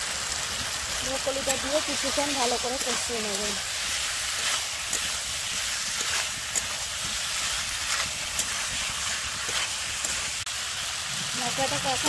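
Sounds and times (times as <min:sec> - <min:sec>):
vegetables sizzling in pan: 0:00.0 - 0:12.0
spatula scraping and knocking pan: 0:00.6 - 0:10.5.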